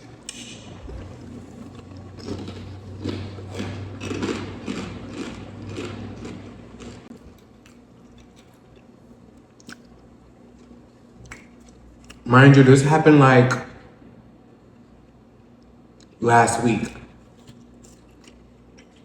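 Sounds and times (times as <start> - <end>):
chewing fried chicken: 0.0 - 12.3, 14.6 - 16.2, 16.8 - 19.0.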